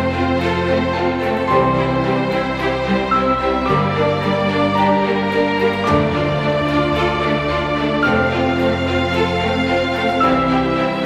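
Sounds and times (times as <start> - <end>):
background music chords: 0.0 - 11.0.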